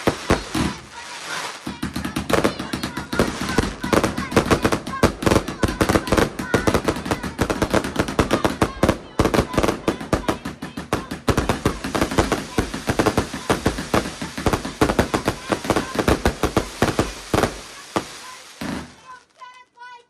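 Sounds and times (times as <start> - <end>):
fireworks bangs and crackles: 0.0 - 19.5.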